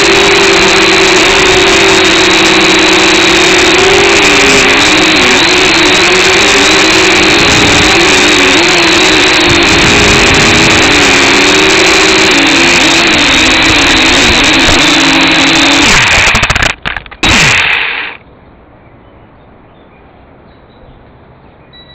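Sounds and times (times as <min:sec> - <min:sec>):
drone motors winding down: 0:00.0 - 0:18.2
drone propellers buzzing: 0:00.0 - 0:18.2.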